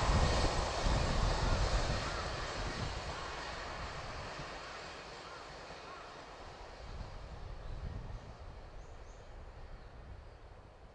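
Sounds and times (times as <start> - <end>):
passing train rumble: 0.0 - 10.9.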